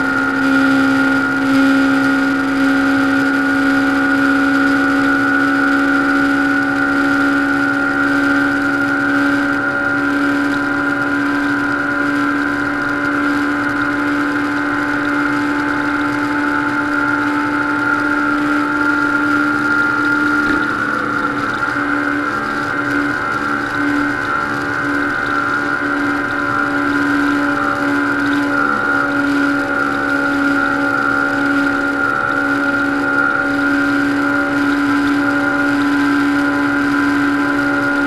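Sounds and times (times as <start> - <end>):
motorcycle engine at high revs: 0.0 - 38.0.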